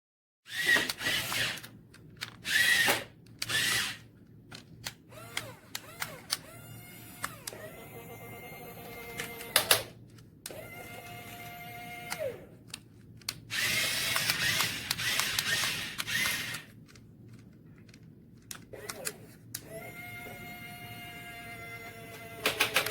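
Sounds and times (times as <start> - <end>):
toy motors whirring: 0.5 - 4.1, 5.1 - 9.9, 10.5 - 12.5, 13.3 - 16.8, 17.9 - 22.9.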